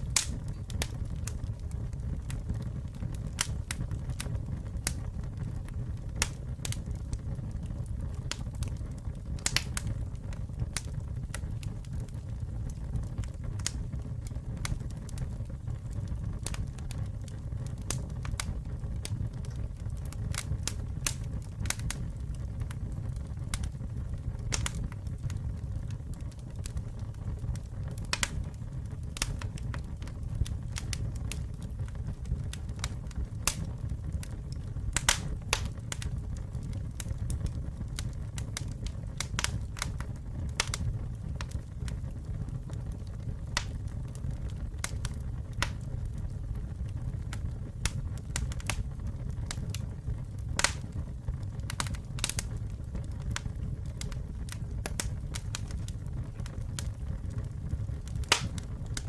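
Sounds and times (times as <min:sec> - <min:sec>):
burning wood popping and crackling: 0:00.0 - 0:59.0
rumble of fire flames: 0:00.0 - 0:59.0.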